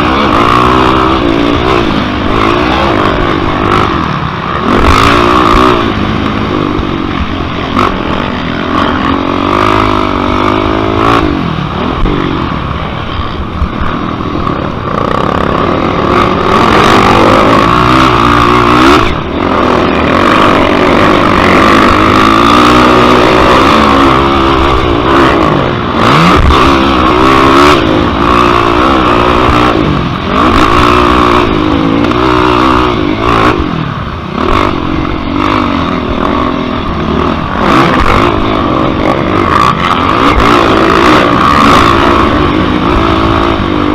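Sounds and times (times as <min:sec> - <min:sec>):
quad engine revving: 0:00.0 - 0:43.9.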